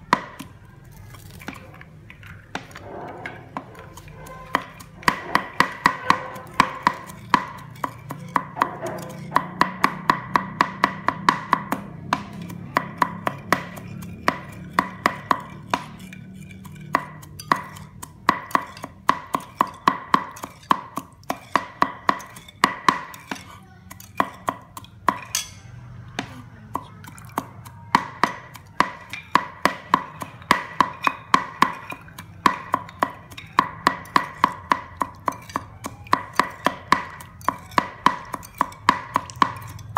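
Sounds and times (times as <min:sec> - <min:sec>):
knife chopping on cutting board: 0:02.5 - 0:23.5, 0:26.2 - 0:39.9.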